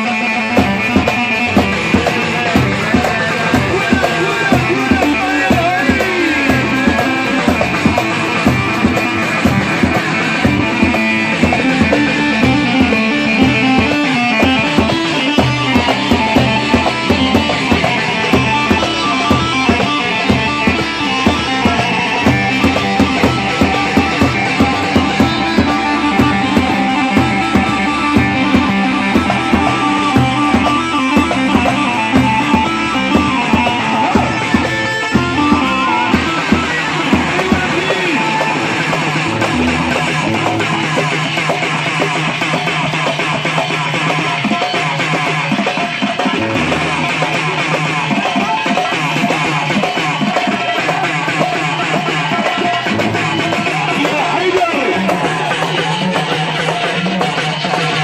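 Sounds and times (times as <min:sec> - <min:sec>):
plucked string melody: 0:00.0 - 0:57.2
steady percussion beat: 0:00.0 - 0:58.0.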